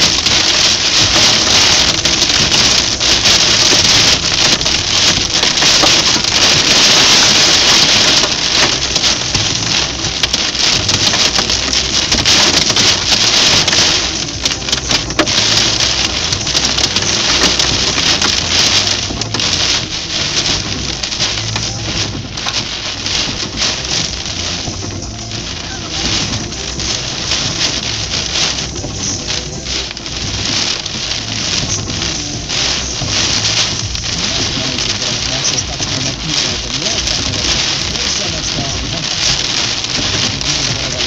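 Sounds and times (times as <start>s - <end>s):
heavy rain on car roof: 0.0s - 41.0s.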